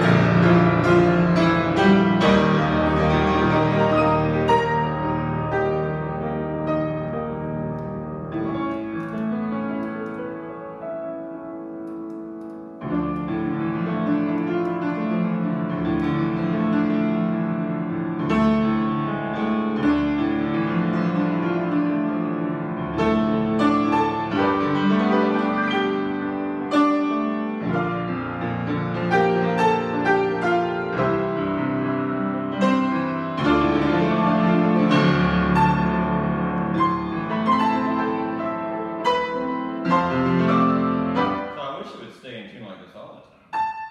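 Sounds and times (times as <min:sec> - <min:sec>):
grand piano playing chords: 0:00.0 - 0:43.9.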